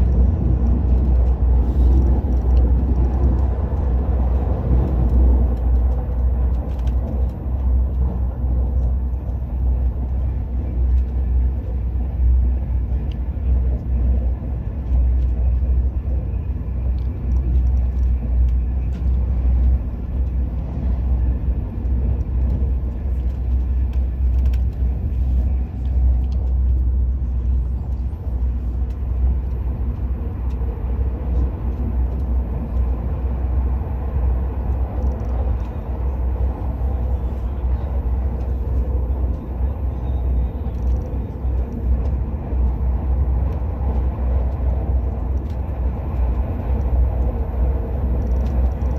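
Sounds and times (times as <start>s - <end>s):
train rumble from inside carriage: 0.0s - 48.9s.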